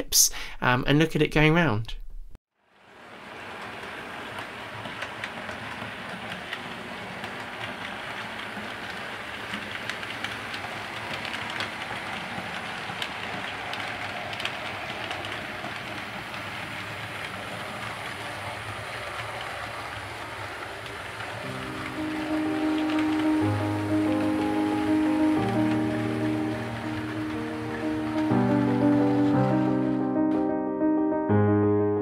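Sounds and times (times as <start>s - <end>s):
model train rumbling on track: 2.9s - 29.8s
wheels clicking over rail joints: 3.0s - 29.3s.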